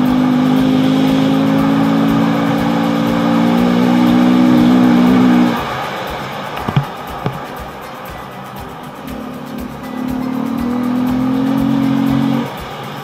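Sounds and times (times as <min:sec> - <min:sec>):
motorcycle engine droning: 0:00.0 - 0:07.8, 0:08.6 - 0:13.0.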